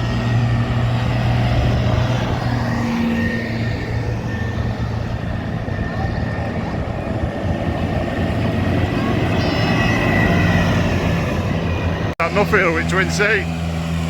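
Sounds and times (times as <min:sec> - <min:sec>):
truck and tractor engines humming: 0:00.0 - 0:14.0.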